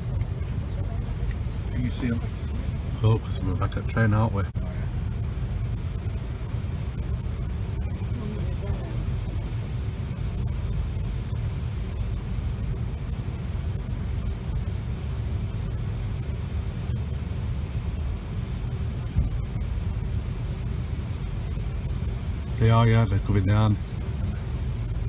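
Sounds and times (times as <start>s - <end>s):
electric train rumble: 0.0s - 25.0s
faint steady hum: 0.0s - 25.0s.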